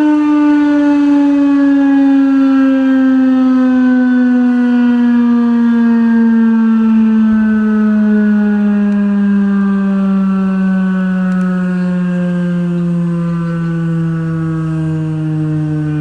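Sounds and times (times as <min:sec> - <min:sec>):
outdoor warning siren: 0:00.0 - 0:16.0.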